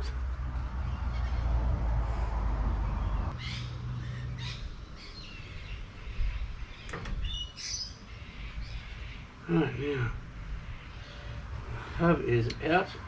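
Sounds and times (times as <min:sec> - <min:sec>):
birds chirping and cawing: 0:00.0 - 0:13.0.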